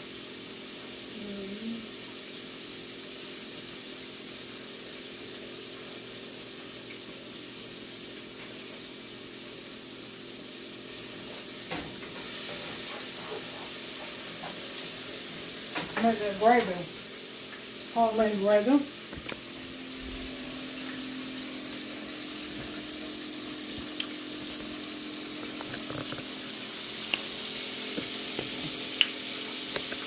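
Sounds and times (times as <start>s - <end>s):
hot oil sizzling in a skillet: 0.0s - 30.0s.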